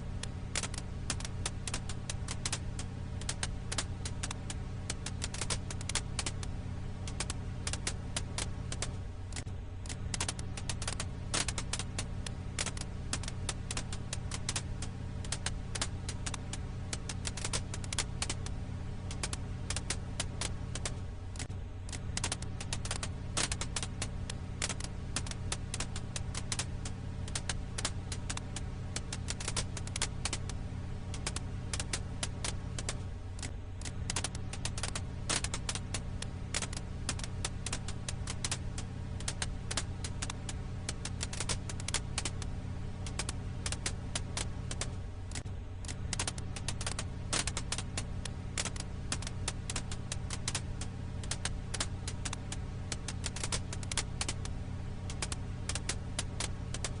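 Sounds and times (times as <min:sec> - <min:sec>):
firewood crackling in campfire: 0:00.0 - 0:57.0.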